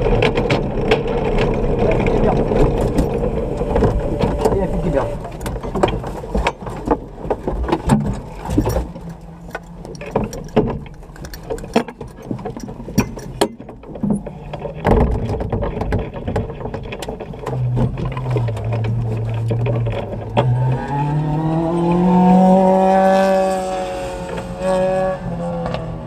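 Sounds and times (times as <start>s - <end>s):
engine running with low hum: 0.0s - 26.0s
knocks clicks and rustling: 0.0s - 26.0s.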